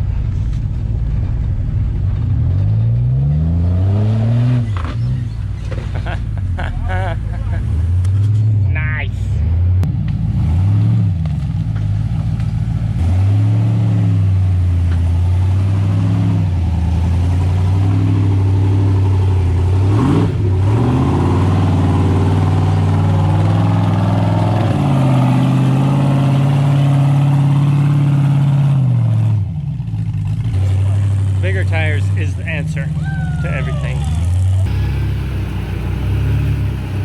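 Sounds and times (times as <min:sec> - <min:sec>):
engine revving under load: 0:02.2 - 0:06.2, 0:09.3 - 0:37.0.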